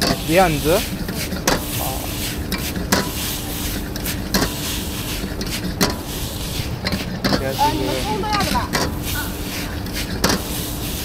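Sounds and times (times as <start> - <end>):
burner and frying hiss: 0.0 - 11.0
metal ladle scraping a wok: 0.0 - 11.0.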